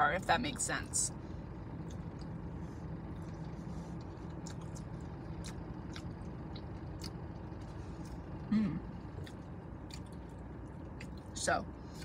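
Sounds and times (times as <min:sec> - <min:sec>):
low car cabin hum: 0:00.0 - 0:12.0
person chewing food: 0:01.6 - 0:11.3.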